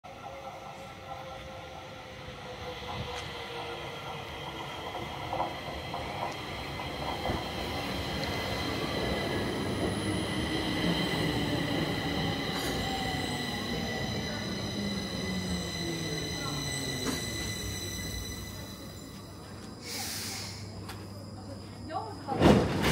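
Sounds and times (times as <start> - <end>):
train falling whine: 4.1 - 22.9.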